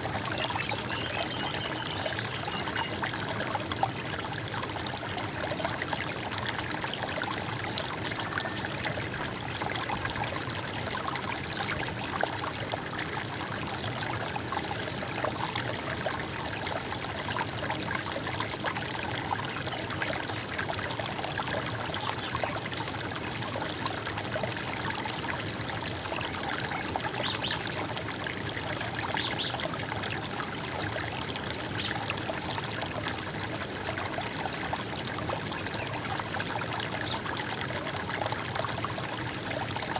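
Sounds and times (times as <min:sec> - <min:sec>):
water gurgling over rocks: 0:00.0 - 0:39.9.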